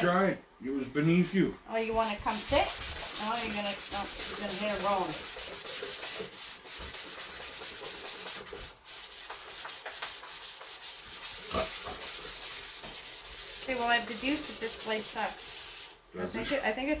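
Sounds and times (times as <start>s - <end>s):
hand sanding strokes: 2.0s - 16.0s.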